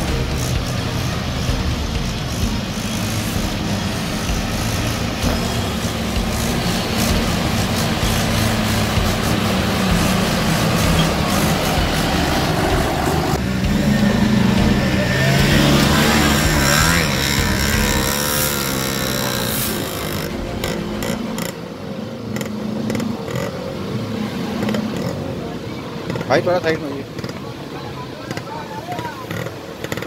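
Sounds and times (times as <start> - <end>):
auto-rickshaw engine: 0.0 - 30.0
motorcycle engine in mud: 0.0 - 30.0
suv engine: 0.0 - 30.0
tractor engine: 0.0 - 30.0.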